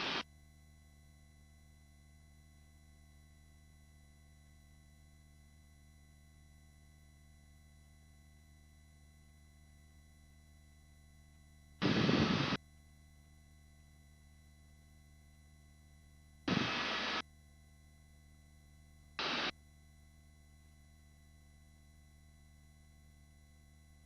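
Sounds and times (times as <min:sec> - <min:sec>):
faint whine tones: 0:00.0 - 0:24.0.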